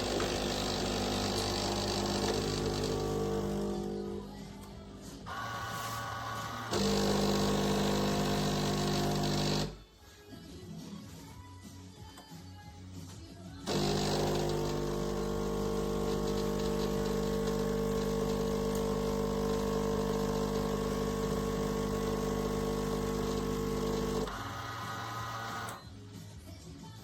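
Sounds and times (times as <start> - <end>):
coffee machine motor drone: 0.0 - 9.8, 13.7 - 25.8.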